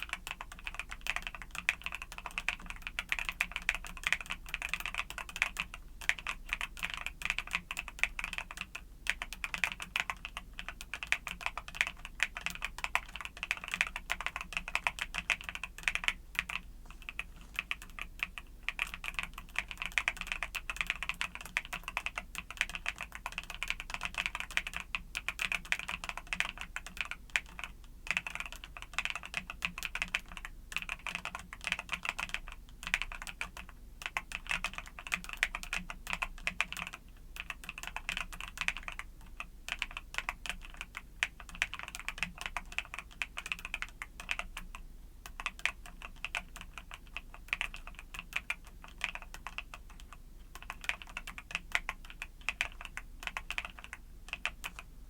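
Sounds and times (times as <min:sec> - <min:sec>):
typing on mechanical keyboard: 0:00.0 - 0:54.9.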